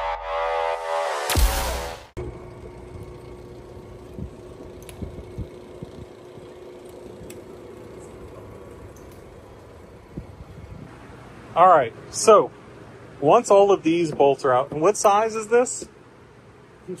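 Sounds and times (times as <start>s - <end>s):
background hum: 2.1s - 17.0s.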